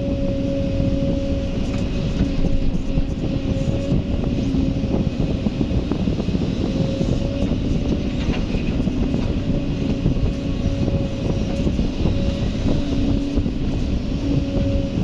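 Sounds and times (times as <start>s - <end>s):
excavator diesel engine running: 0.0s - 15.0s
faint steady whine: 0.0s - 15.0s.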